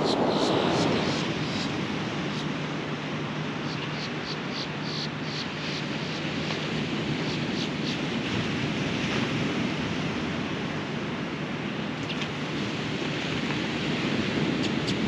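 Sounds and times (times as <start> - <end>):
ocean surf breaking on beach: 0.0 - 15.0.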